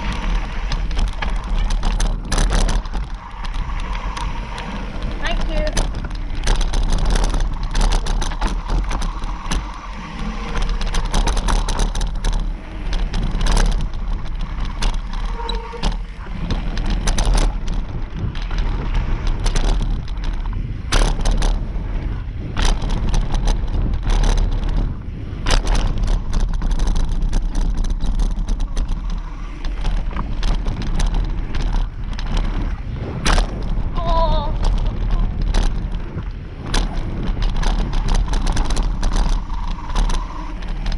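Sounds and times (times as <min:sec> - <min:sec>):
bike clattering over wooden planks: 0:00.0 - 0:40.9
bike rattling over bumps: 0:00.0 - 0:40.9
wind buffeting microphone: 0:00.0 - 0:40.9.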